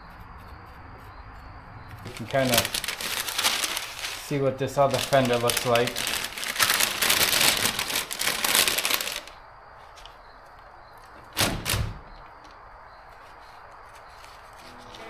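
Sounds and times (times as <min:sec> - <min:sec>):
crinkling handling noise: 0:02.0 - 0:15.0.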